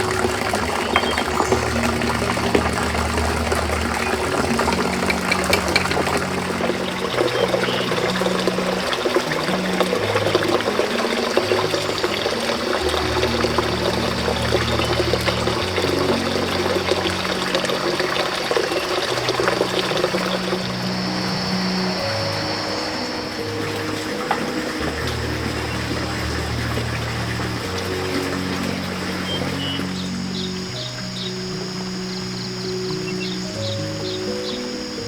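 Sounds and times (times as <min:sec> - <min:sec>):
background music: 0:00.0 - 0:35.0
water running and splashing: 0:00.0 - 0:35.0.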